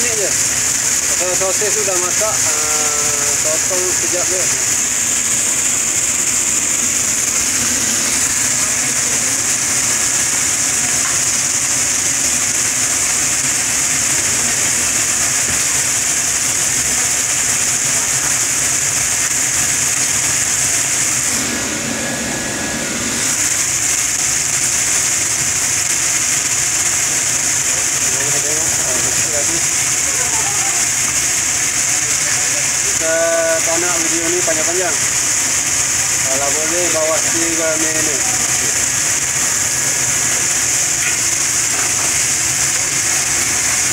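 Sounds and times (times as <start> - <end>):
food deep-frying in hot oil: 0.0 - 43.9.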